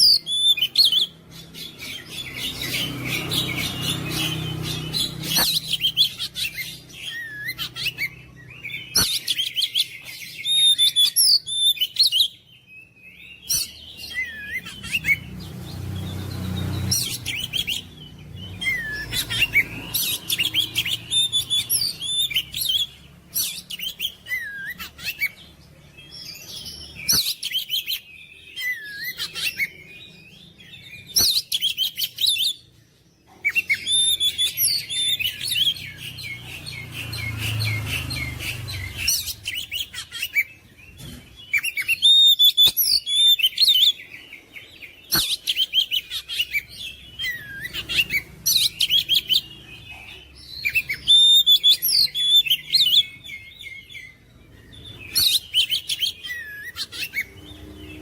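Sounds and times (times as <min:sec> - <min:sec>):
magpie-robin singing: 0:00.0 - 0:58.0.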